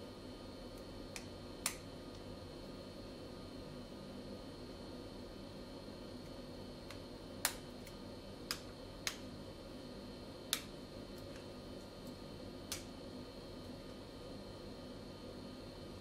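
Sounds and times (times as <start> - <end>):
bench hum: 0.0 - 16.0
faint high whine: 0.0 - 16.0.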